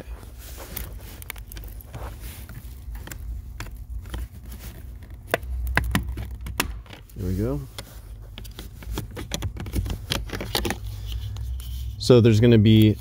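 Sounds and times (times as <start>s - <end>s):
plastic cover clicking and scraping: 0.7s - 11.7s.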